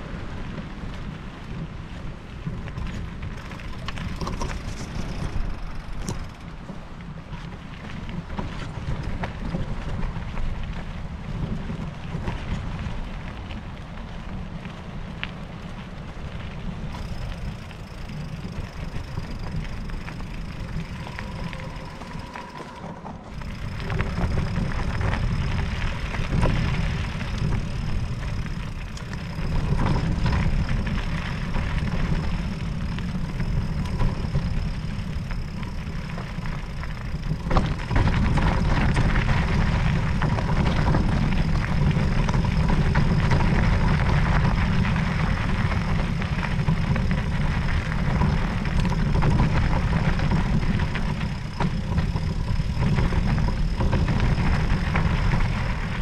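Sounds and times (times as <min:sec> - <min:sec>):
tyres crackling on rough trail: 0:00.0 - 0:56.0
wind buffeting microphone: 0:00.0 - 0:56.0.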